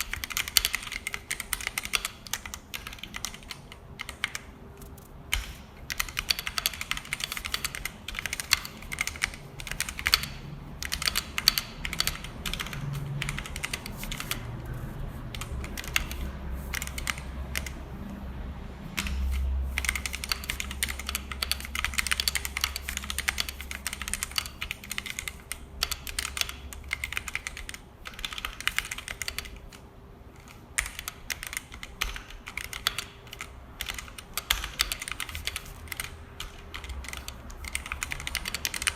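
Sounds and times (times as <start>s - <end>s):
mechanical keyboard typing: 0.0s - 18.3s, 18.9s - 38.9s.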